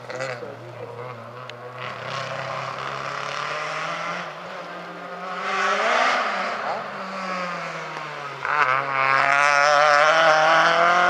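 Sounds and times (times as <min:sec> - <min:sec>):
distant rally car engine: 0:00.0 - 0:11.0.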